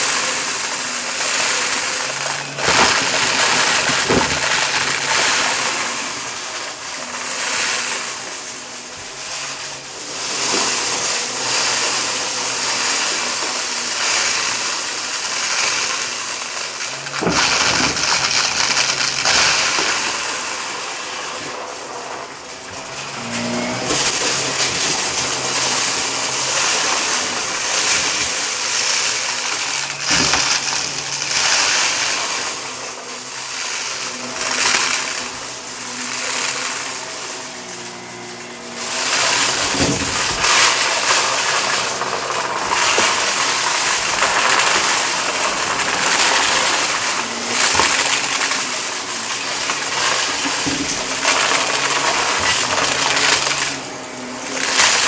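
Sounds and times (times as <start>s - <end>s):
debris crackling through vacuum: 0.0s - 55.0s
vacuum cleaner running over carpet: 0.0s - 55.0s.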